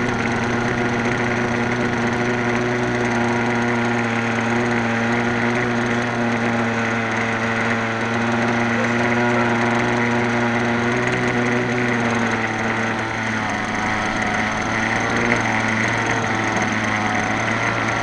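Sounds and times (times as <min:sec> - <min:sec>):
model helicopter engine and rotor: 0:00.0 - 0:18.0.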